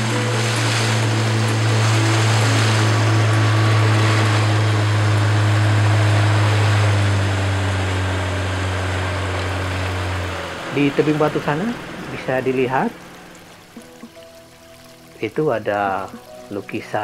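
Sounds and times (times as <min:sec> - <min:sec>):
motorboat engine hum: 0:00.0 - 0:17.0
rushing water: 0:00.0 - 0:17.0
wind: 0:00.0 - 0:17.0.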